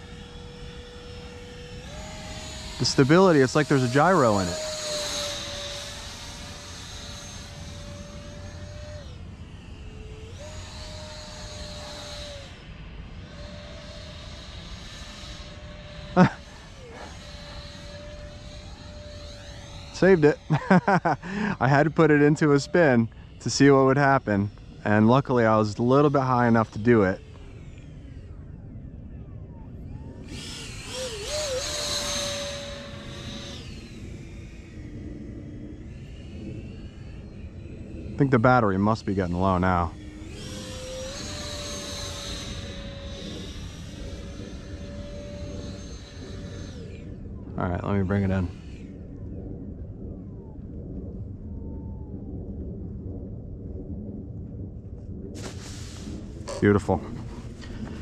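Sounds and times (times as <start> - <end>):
electric motor whining: 0.0 - 52.6, 55.2 - 58.0
low rumble: 0.0 - 58.0.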